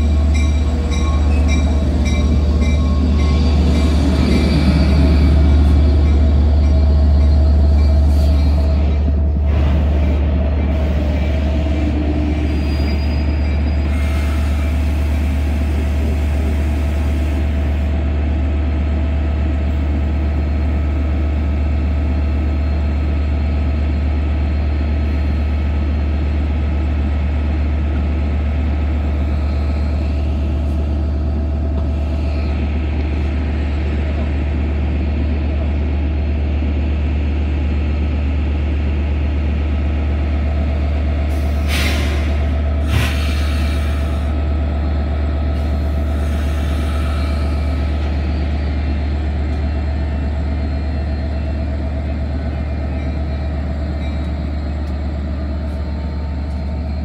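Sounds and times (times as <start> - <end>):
diesel locomotive engine humming: 0.0 - 57.0.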